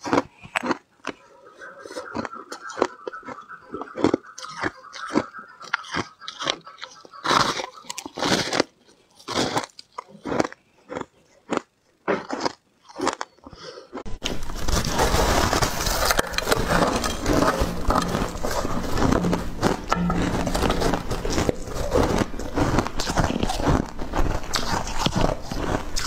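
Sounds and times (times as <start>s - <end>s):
teeth crunching shaved ice: 0.0s - 1.3s, 2.0s - 26.0s.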